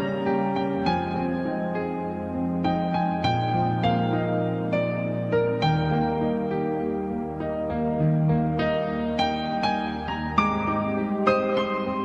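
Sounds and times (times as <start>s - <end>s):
soft new-age instrumental music: 0.0s - 12.0s.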